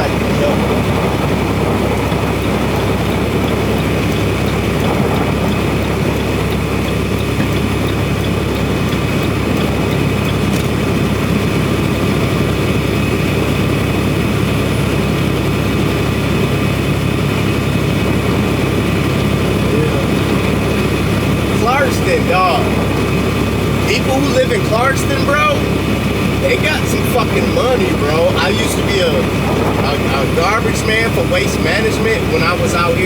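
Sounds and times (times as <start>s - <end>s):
diesel truck engine drone: 0.0s - 33.0s
road noise: 0.0s - 33.0s
wind noise: 0.0s - 33.0s.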